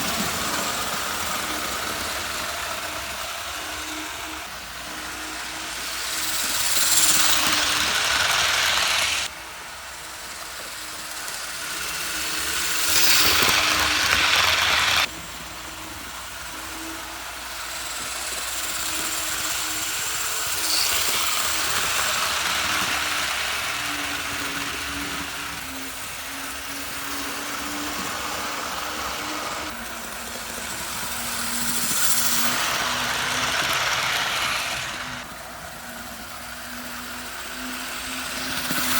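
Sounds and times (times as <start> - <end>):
model train motor buzz: 0.0 - 38.9
wheel hiss on track: 0.0 - 38.9.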